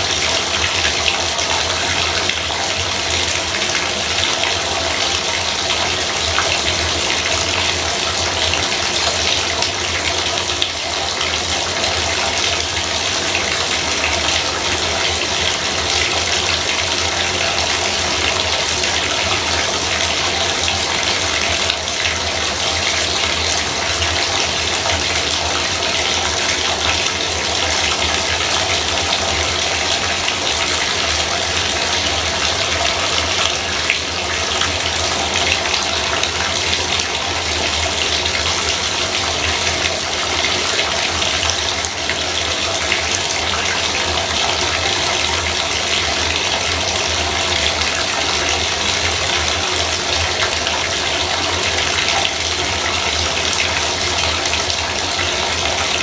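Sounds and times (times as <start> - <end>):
faucet water splashing into tub: 0.0 - 56.0.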